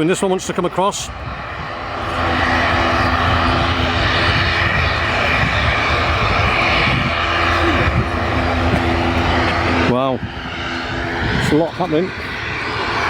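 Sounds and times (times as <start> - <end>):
aircraft engines running: 0.0 - 13.0.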